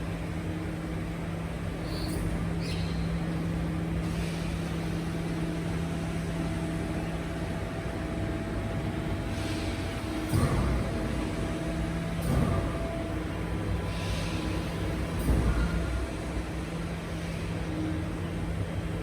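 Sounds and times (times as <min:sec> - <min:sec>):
garbage truck mechanical hum: 0:00.0 - 0:19.0.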